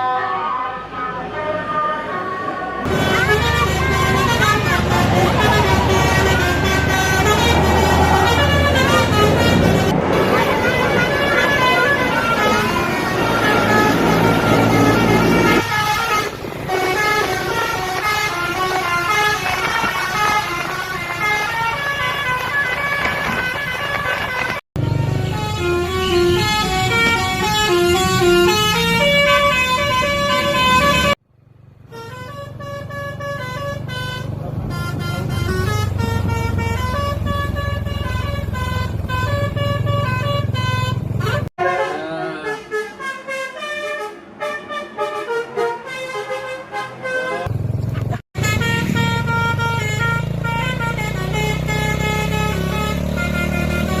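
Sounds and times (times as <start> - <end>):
bus musical horn tune: 0.0 - 31.2, 31.8 - 54.0.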